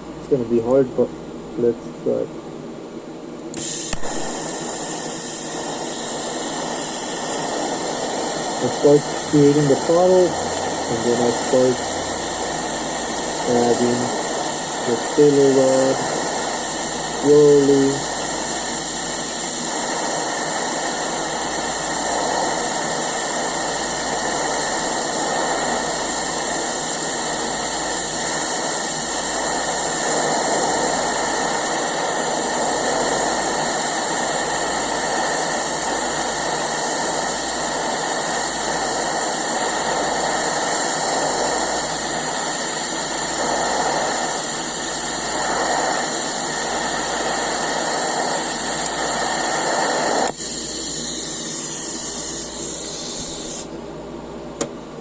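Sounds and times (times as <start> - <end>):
welding arc burning: 3.5 - 53.7.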